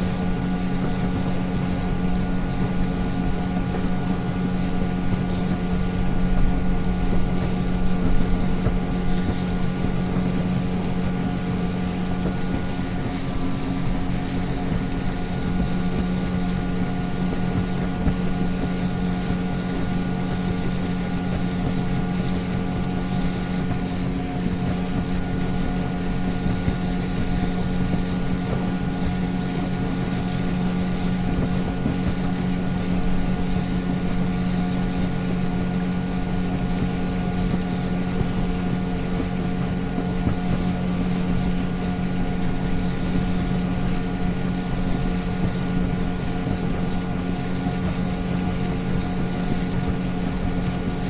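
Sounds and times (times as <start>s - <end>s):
motorboat engine droning: 0.0s - 51.0s
water rushing: 0.0s - 51.0s
wind: 0.0s - 51.0s.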